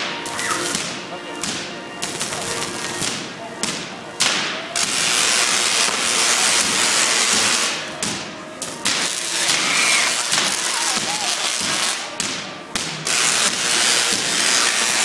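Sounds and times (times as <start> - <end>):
crackle of spark discharges: 0.0 - 15.0.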